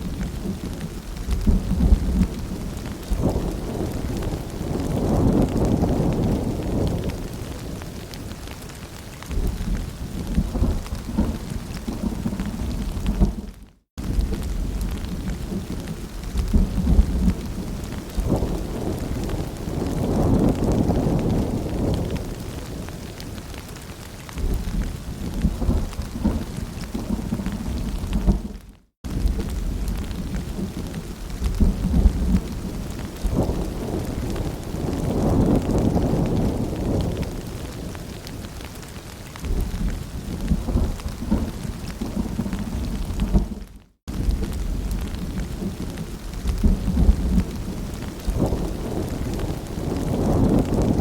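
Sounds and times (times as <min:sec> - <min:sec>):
low rolling thunder: 0:00.0 - 0:08.1, 0:09.3 - 0:23.3, 0:24.4 - 0:38.4, 0:39.4 - 0:51.0
raindrop ticks: 0:00.0 - 0:51.0
steady rain: 0:00.0 - 0:51.0.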